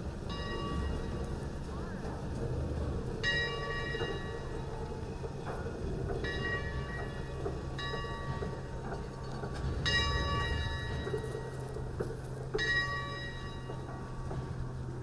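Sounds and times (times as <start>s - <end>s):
locomotive bell ringing: 0.0s - 2.0s, 3.0s - 15.0s
train rumble: 0.0s - 15.0s.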